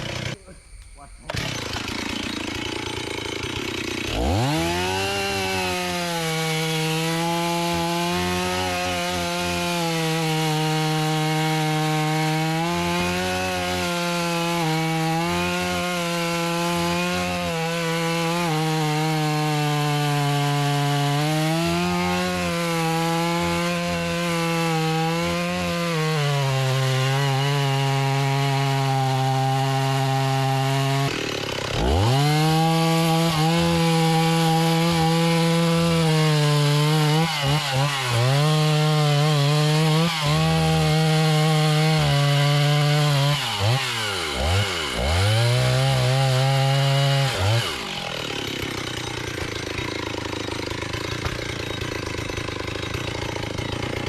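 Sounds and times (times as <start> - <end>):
chainsaw cutting tree: 0.0 - 54.0.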